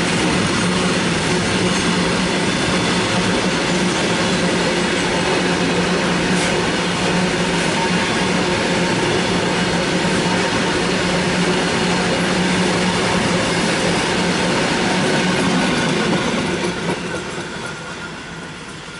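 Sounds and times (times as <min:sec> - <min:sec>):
train wheels clattering on rails: 0:00.0 - 0:18.9.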